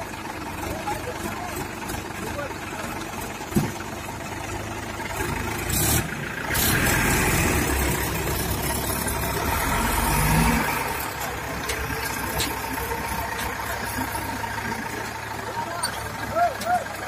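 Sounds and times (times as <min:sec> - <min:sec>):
diesel engine revving and idling: 0:00.0 - 0:17.0.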